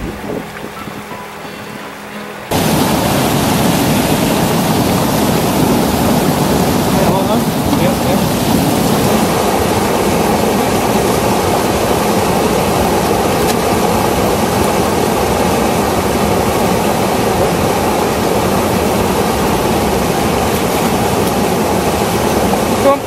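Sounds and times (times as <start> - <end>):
water pouring over a weir: 2.5 - 23.0.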